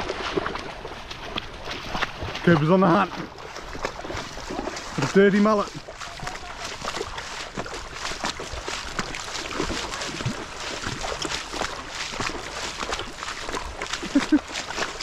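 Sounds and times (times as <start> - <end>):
feet wading through water: 0.0 - 15.0.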